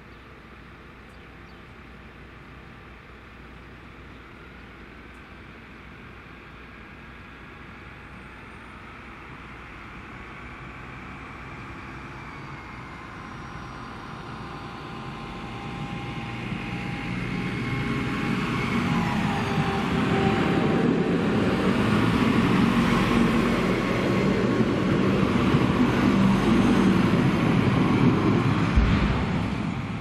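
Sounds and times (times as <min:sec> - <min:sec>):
diesel engine hum: 0:00.0 - 0:30.0.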